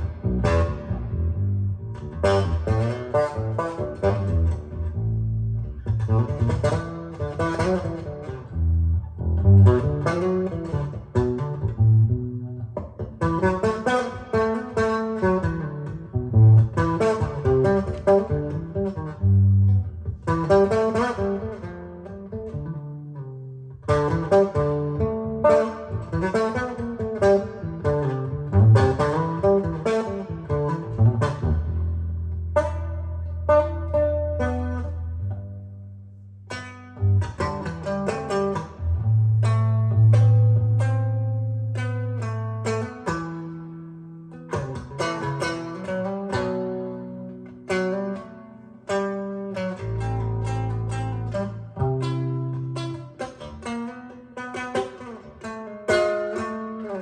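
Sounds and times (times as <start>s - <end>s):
bass guitar music over loudspeakers: 0.0s - 22.9s, 23.7s - 48.3s.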